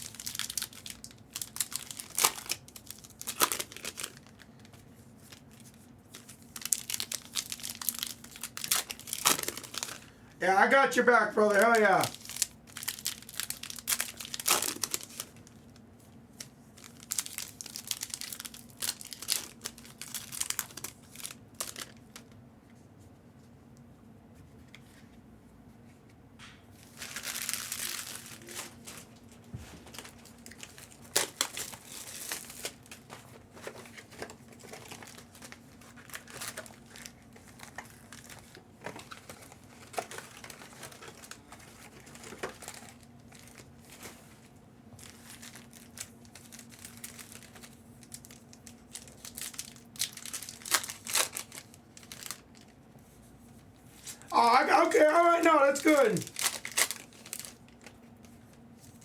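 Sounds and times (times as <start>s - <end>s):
foil wrappers crinkling: 0.0s - 22.4s, 26.8s - 59.0s
faint steady hum: 0.0s - 59.0s.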